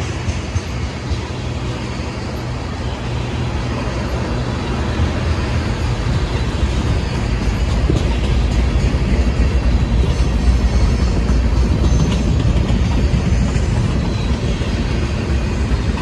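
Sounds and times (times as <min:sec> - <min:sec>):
steel train wheels rumbling on rails: 0:00.0 - 0:16.0.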